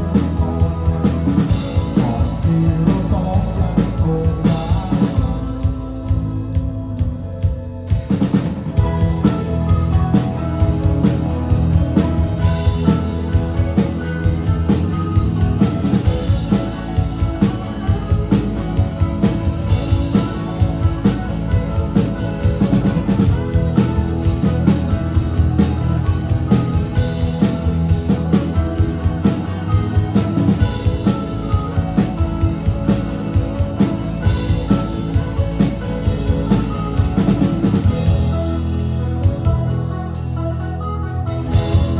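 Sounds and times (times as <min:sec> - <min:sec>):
rock band playing: 0:00.0 - 0:41.9.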